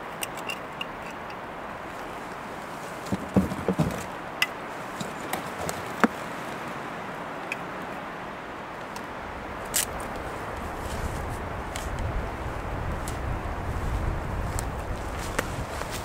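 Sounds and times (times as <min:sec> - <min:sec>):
wind through forest: 0:00.0 - 0:16.0.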